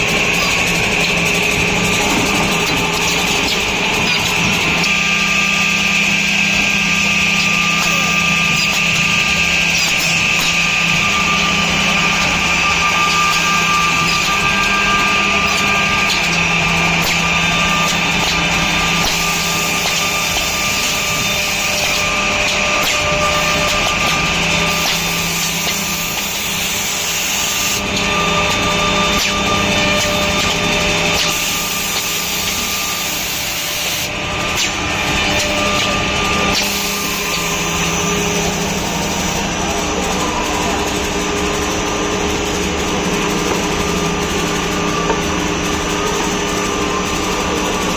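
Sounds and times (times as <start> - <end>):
machine humming with high whine: 0.0 - 47.9.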